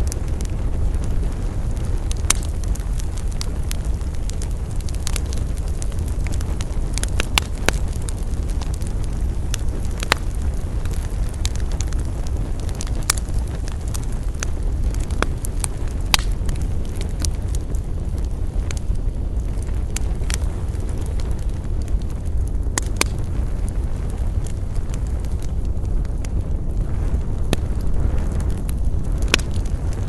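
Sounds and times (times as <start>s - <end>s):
low rumble: 0.0s - 30.0s
wood fire crackling: 0.0s - 30.0s.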